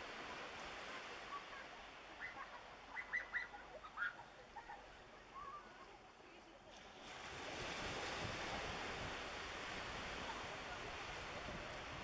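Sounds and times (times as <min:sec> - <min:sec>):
surf: 0:00.0 - 0:12.0
wind: 0:00.0 - 0:12.0.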